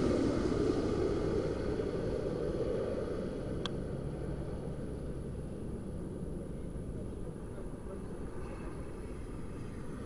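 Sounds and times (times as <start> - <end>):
jet airliner rushing: 0.0 - 10.0.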